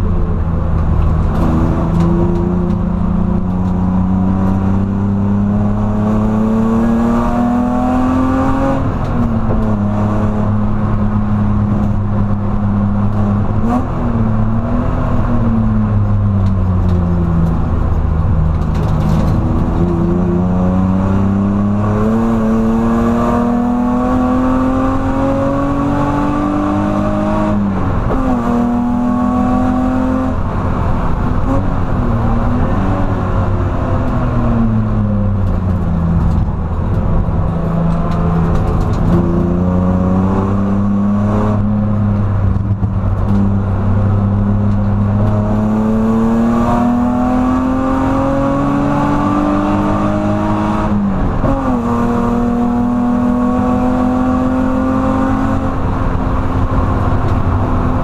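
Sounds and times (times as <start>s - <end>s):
car engine revving under load: 0.0s - 58.0s.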